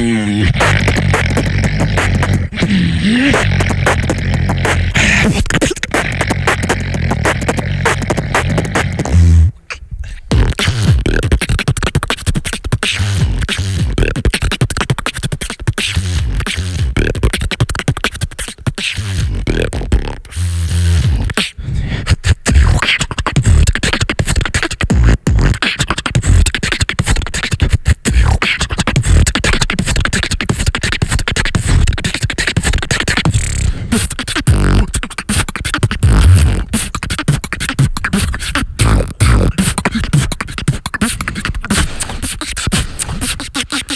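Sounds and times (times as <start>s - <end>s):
beatboxing into a microphone: 0.0s - 43.9s.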